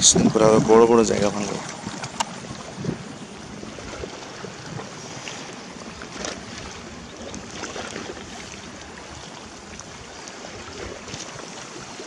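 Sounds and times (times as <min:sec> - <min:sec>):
river water lapping at bank: 0:00.0 - 0:12.0
wind on microphone: 0:00.0 - 0:12.0.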